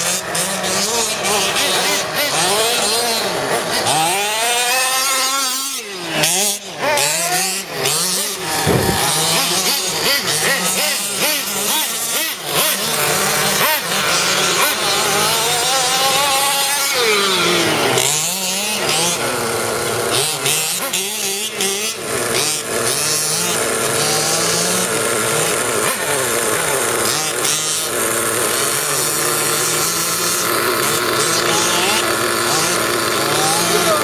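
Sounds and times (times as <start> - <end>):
small two-stroke engines revving: 0.0 - 34.0.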